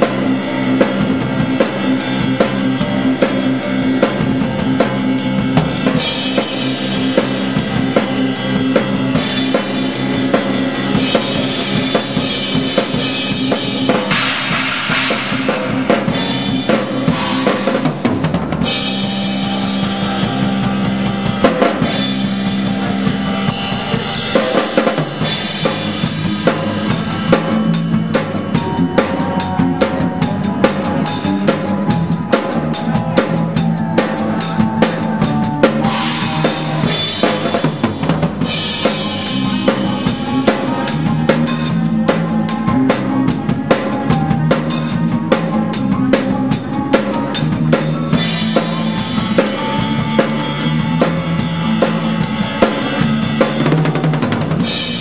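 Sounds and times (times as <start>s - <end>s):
bass drum: 0.0s - 55.0s
cymbals: 0.0s - 55.0s
held keyboard chords: 0.0s - 55.0s.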